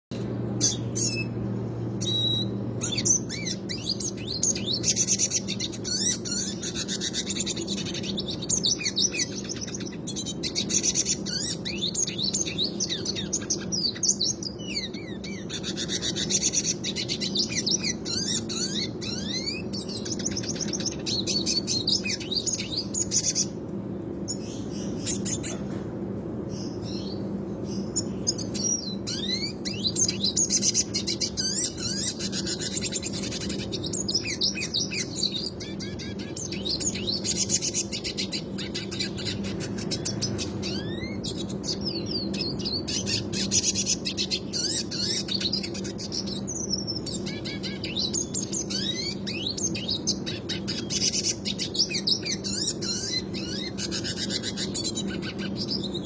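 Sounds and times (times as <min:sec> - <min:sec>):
steady low hum: 0:00.0 - 0:56.0
bird singing rapid chirps and trills: 0:00.1 - 0:25.8, 0:26.4 - 0:56.0.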